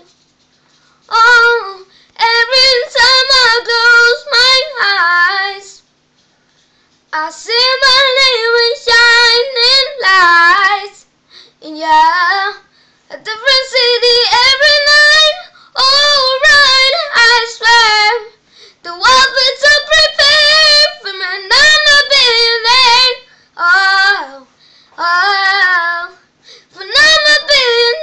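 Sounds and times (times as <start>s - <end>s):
boy singing unaccompanied: 1.1s - 5.8s, 7.1s - 11.0s, 11.6s - 28.0s.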